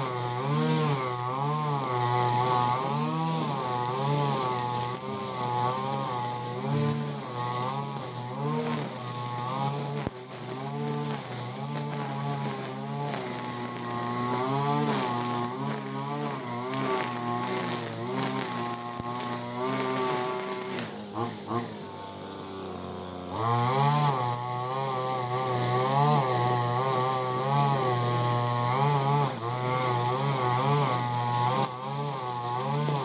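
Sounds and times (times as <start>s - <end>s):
brush cutter engine revving: 0.0s - 33.0s
trimmer line hissing through grass: 0.0s - 33.0s.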